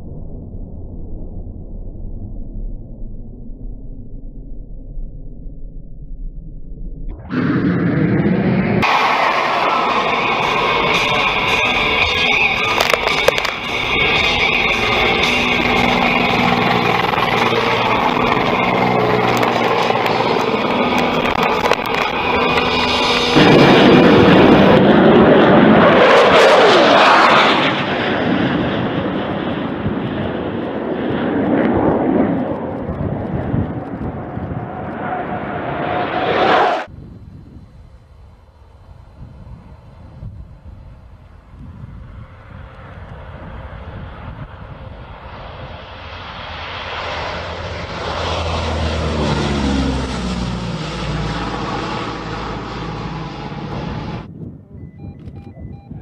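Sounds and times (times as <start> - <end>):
jet aircraft roaring overhead: 7.1 - 54.8.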